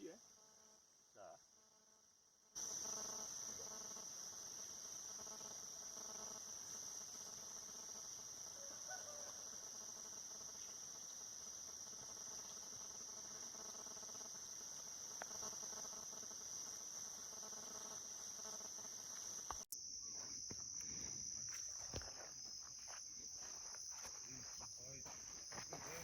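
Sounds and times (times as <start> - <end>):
crickets droning: 0.0 - 26.0.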